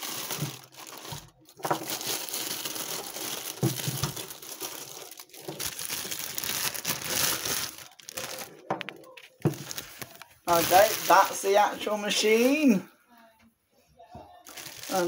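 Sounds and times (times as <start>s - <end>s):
plastic bag crinkling: 0.0s - 12.8s, 14.4s - 15.0s.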